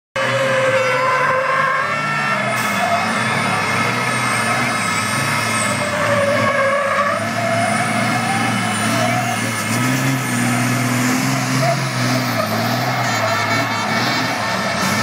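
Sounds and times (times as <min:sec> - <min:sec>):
diesel engine running hard: 0:00.2 - 0:15.0
distant truck engines: 0:00.2 - 0:15.0.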